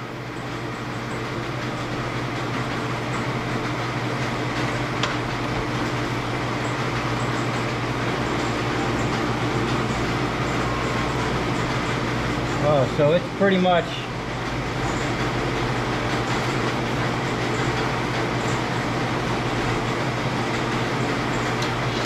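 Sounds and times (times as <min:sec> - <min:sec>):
hydraulic pump humming: 0:00.0 - 0:22.0.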